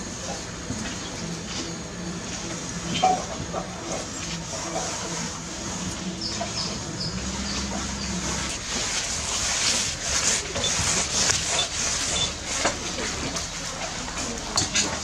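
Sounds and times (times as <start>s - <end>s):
low hum: 0.0s - 15.0s
rope and net scraping: 0.0s - 15.0s.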